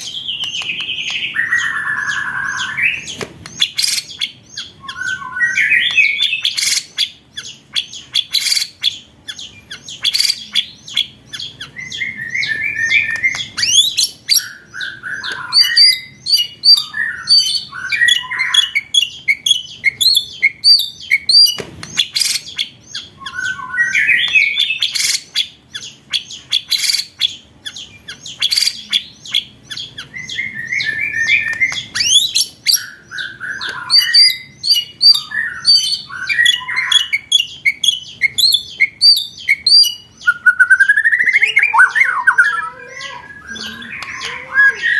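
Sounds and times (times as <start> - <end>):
recorded songbird song: 0.0 - 44.9.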